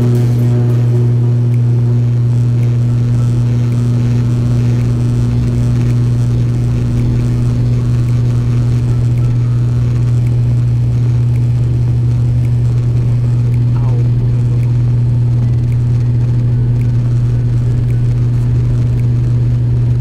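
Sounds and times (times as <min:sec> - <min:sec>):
turboprop engine drone in cabin: 0:00.0 - 0:20.0.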